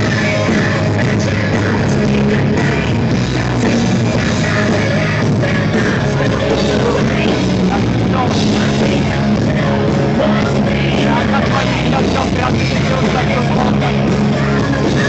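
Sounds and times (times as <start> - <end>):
drum kit: 0.0 - 15.0
guitar: 0.0 - 15.0
loud rock music: 0.0 - 15.0
person singing: 0.0 - 15.0.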